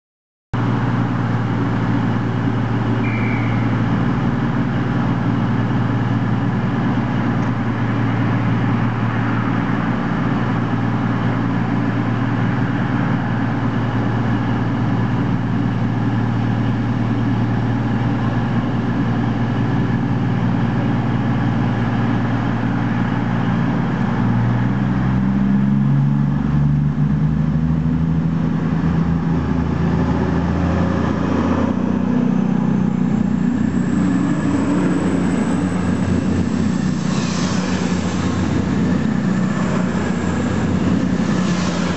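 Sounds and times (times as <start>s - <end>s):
train diesel engines idling: 0.6s - 41.9s
train engine throttling up: 0.6s - 41.9s.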